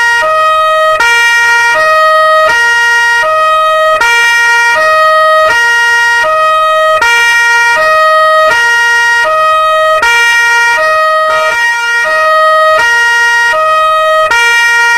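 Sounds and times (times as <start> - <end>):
two-tone police siren: 0.0 - 14.9.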